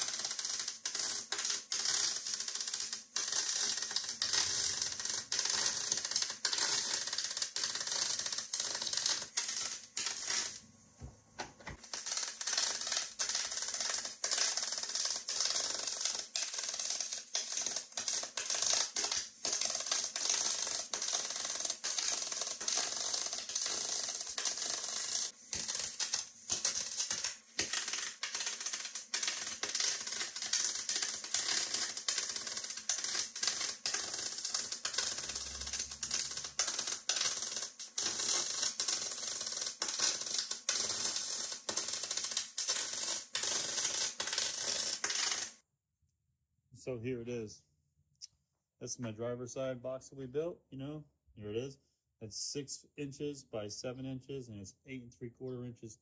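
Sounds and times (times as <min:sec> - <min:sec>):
welding arc crackling and hissing: 0:00.0 - 0:45.6.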